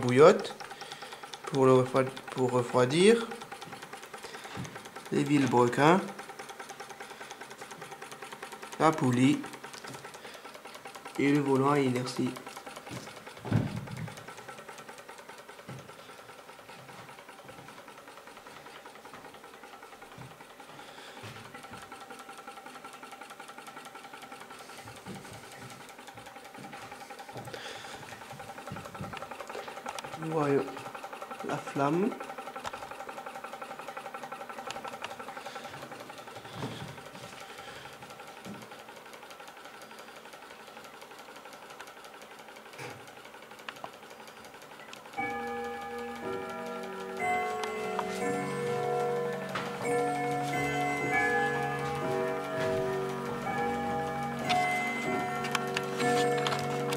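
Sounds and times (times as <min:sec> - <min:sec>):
small engine mechanical ticking: 0:00.0 - 0:56.9.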